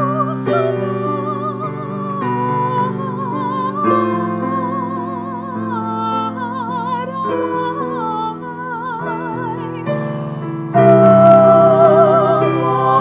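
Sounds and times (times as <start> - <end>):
piano chords: 0.0 - 13.0
woman singing with vibrato: 0.0 - 13.0
women's choir singing: 0.0 - 13.0.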